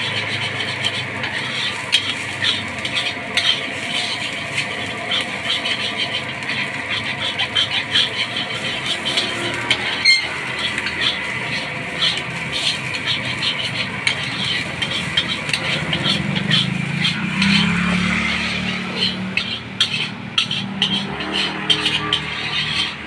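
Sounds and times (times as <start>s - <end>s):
food sizzling: 0.0s - 23.0s
metal spatula scraping a wok: 0.0s - 23.0s.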